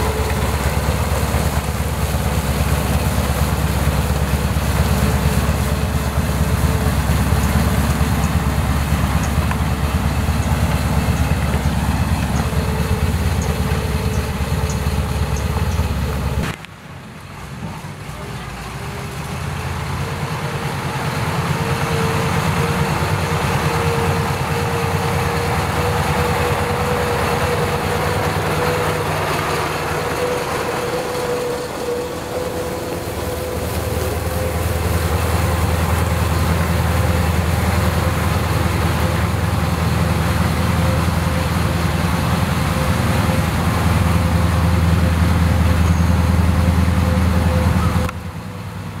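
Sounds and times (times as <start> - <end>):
water spraying onto gravel: 0.0 - 16.8, 17.9 - 47.0
thin steady whine: 0.0 - 17.2, 18.2 - 49.0
diesel truck engine rumble: 0.0 - 49.0.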